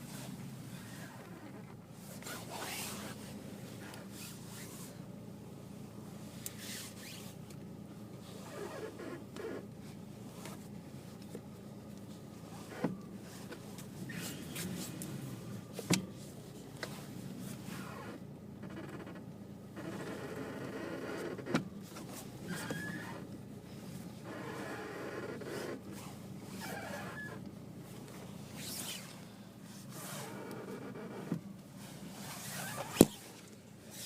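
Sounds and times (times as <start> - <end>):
steering squeaking and creaking: 0.0 - 5.0, 6.3 - 34.0.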